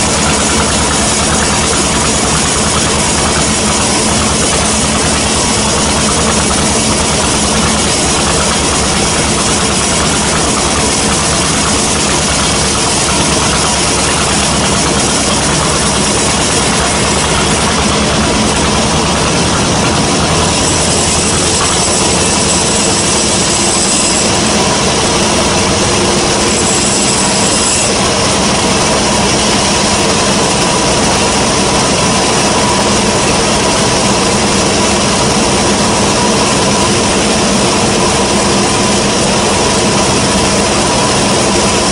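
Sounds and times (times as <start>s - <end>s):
band saw machine drone: 0.0s - 41.9s
high saw whine: 0.0s - 41.9s.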